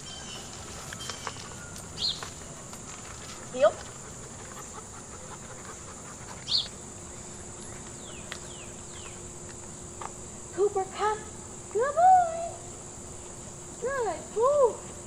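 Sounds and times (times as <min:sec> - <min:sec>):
insects droning: 0:00.0 - 0:15.0
short insect calls: 0:00.0 - 0:15.0.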